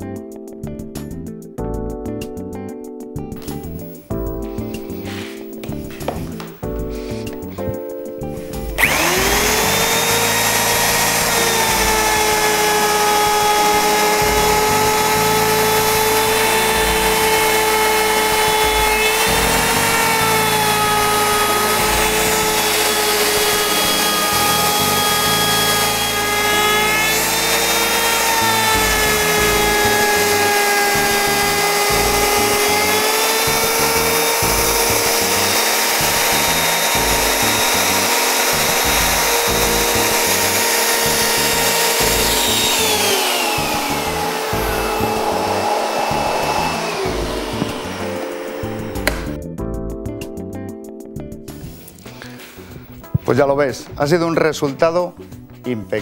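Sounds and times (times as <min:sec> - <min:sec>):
router bit cutting wood: 0:03.4 - 0:07.8, 0:08.4 - 0:49.4
router whining: 0:03.4 - 0:49.4.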